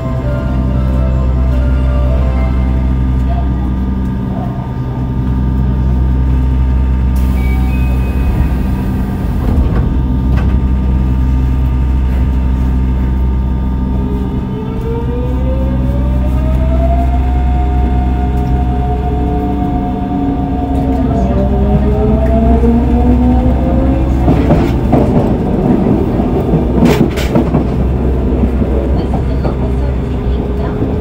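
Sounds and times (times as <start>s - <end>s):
train hum with fixed tones: 0.0s - 31.0s.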